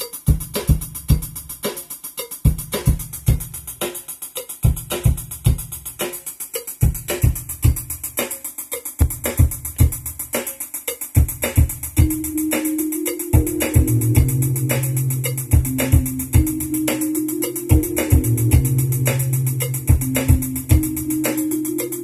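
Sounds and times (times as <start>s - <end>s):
fast hi-hat ticks: 0.0s - 22.0s.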